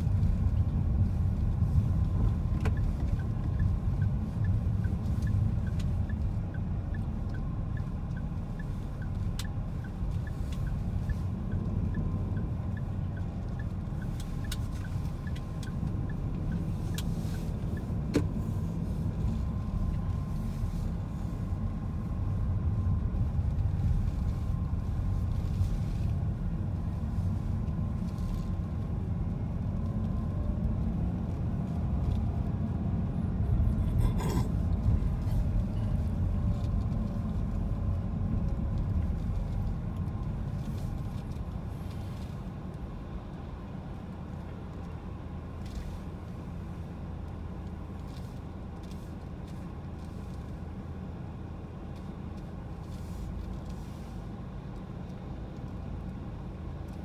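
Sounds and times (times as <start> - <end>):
engine and road rumble: 0.0 - 57.0
turn signal ticking: 0.0 - 57.0.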